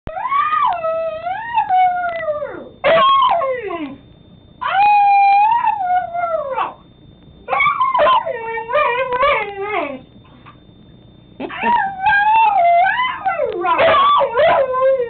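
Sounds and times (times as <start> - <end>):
dog howling: 0.1 - 4.0, 4.6 - 6.8, 7.5 - 10.1, 11.5 - 15.0.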